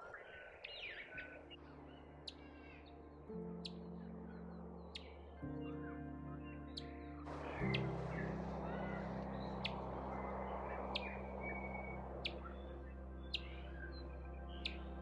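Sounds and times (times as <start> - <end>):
low sustained tones: 0.0 - 15.0.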